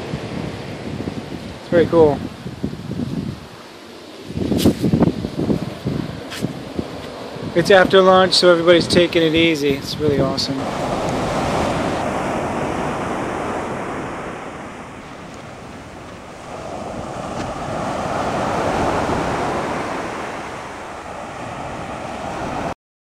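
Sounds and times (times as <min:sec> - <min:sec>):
ocean surf breaking on beach: 0:00.0 - 0:22.8.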